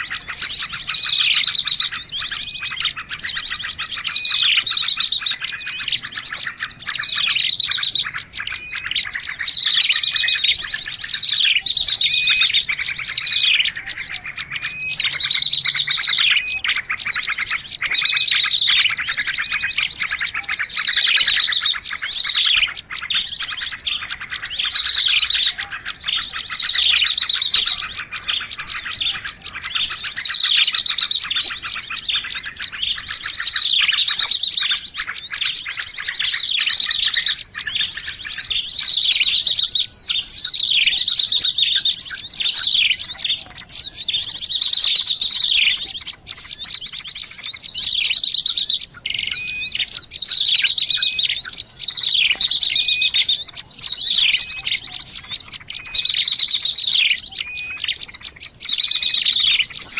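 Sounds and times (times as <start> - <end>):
songbirds calling: 0.0 - 59.9.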